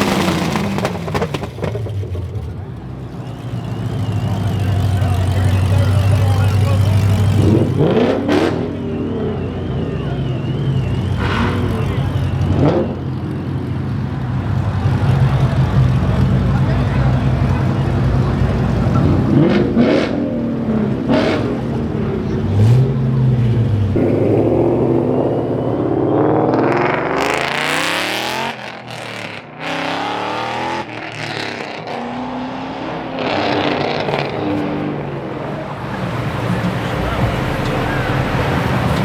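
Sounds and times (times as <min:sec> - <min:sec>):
car accelerating past: 0:00.0 - 0:39.0
car blipping throttle: 0:00.0 - 0:39.0
car engines revving: 0:00.0 - 0:39.0.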